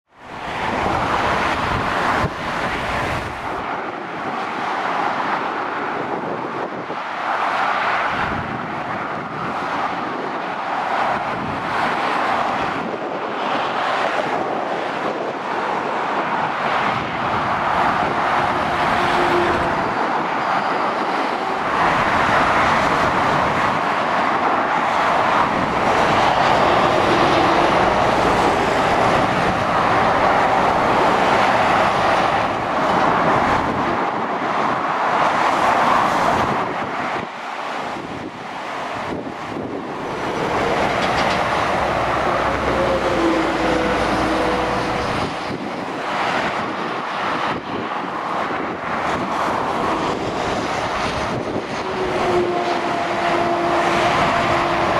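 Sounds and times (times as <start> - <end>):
motorway traffic rushing: 0.0 - 54.9.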